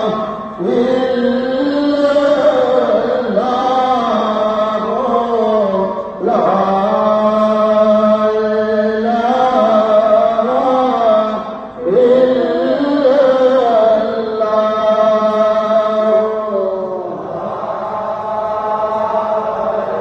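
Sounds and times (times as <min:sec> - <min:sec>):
person chanting: 0:00.0 - 0:20.0.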